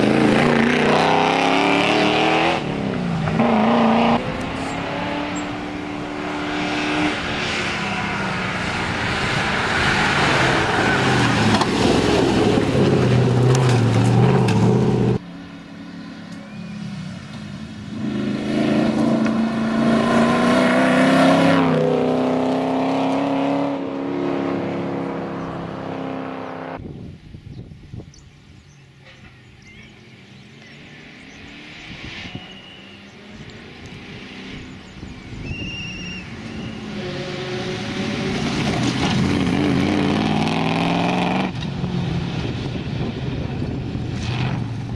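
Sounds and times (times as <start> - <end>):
rally car engine at full throttle: 0.0 - 26.8, 30.4 - 44.9.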